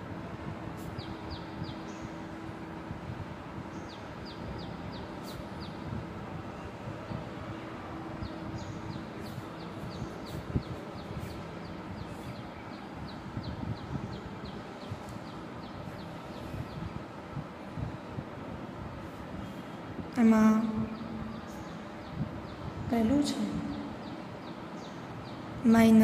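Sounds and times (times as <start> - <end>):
faint low hum: 0.0 - 26.0
bird chirping: 0.8 - 2.4, 3.6 - 17.0, 19.1 - 26.0.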